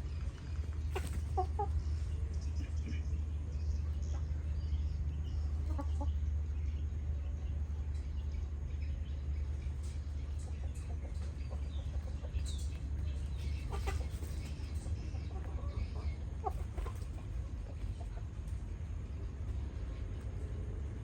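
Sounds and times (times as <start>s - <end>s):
chickens clucking: 0.0s - 21.0s
steady low rumble: 0.0s - 21.0s.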